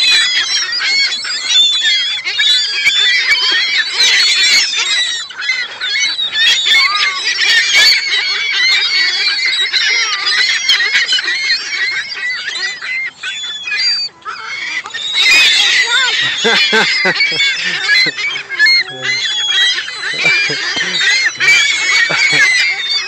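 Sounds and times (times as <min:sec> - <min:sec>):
gulls calling: 0:00.0 - 0:23.0.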